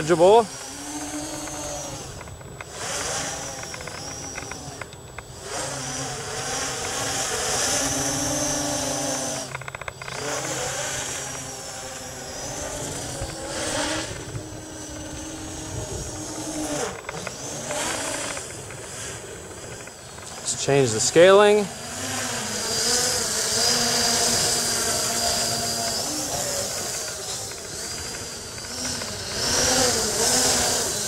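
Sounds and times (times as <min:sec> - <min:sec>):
drone motors and propellers whining: 0:00.0 - 0:31.0.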